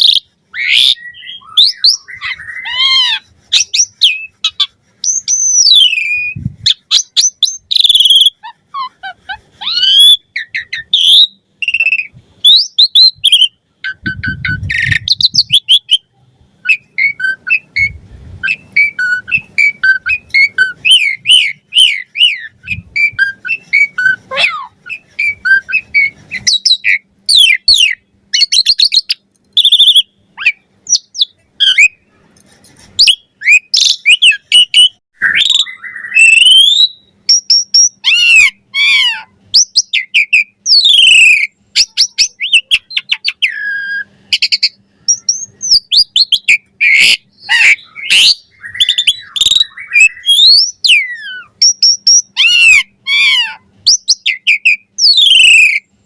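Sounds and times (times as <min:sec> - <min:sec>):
starling singing: 0:00.0 - 0:32.0, 0:33.0 - 0:56.0.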